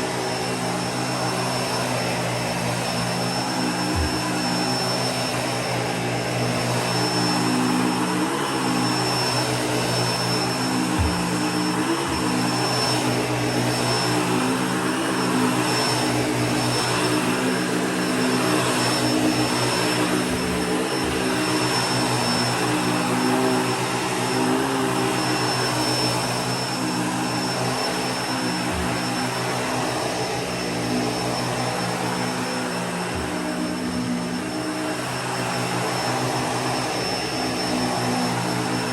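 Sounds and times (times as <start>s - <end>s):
vacuum cleaner running on carpet: 0.0s - 38.9s.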